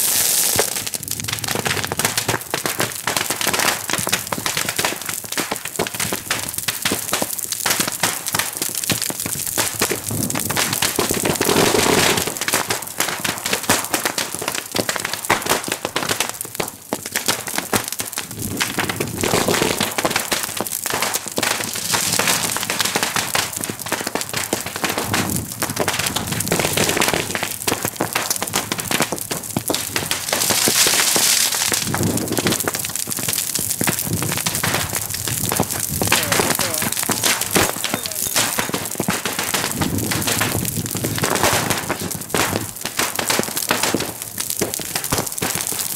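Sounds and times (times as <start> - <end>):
fire burning: 0.0 - 45.9
firecrackers popping densely: 0.0 - 45.9.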